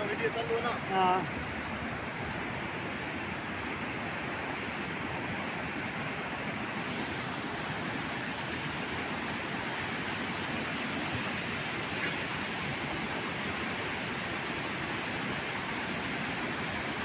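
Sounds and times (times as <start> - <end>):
river floodwater rushing: 0.0 - 17.0.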